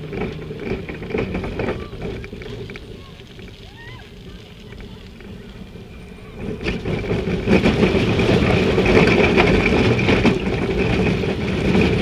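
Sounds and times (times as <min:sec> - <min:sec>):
roller coaster wheels rumbling: 0:00.0 - 0:12.0
roller coaster whine: 0:00.0 - 0:12.0.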